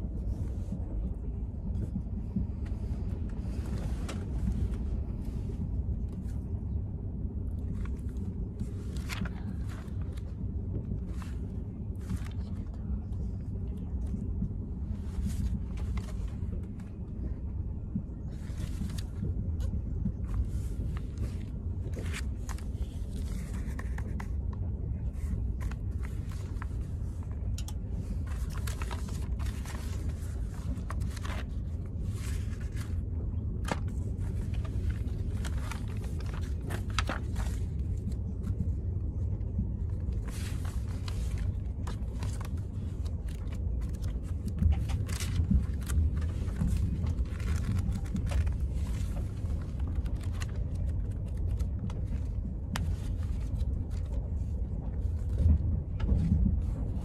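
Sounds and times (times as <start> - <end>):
moving train rumble: 0.0 - 57.0
magazine pages rustling: 7.6 - 14.2, 14.8 - 17.1, 18.3 - 57.0.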